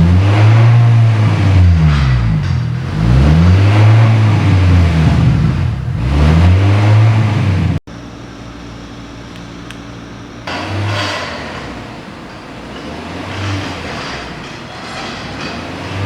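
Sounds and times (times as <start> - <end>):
car engine revving: 0.0 - 7.8, 10.5 - 16.0.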